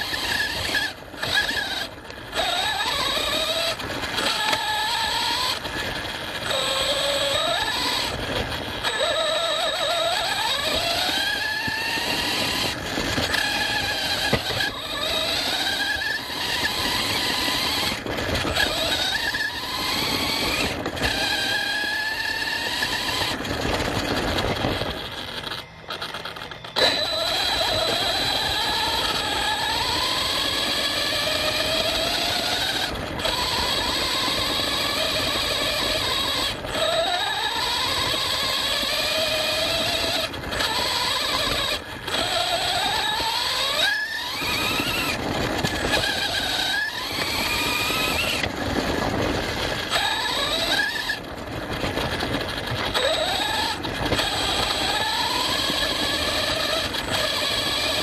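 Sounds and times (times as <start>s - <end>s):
rc car motor whining: 0.0s - 58.0s.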